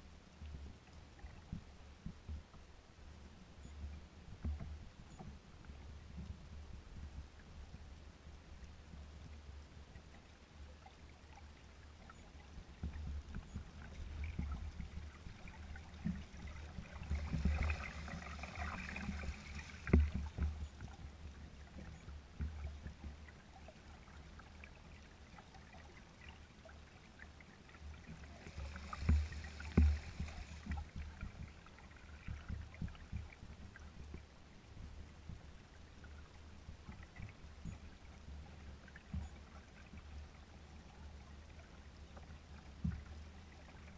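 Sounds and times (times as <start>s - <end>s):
wind rumbling on microphone: 0.0s - 24.7s, 27.8s - 43.9s
waves lapping against hull: 0.3s - 43.9s.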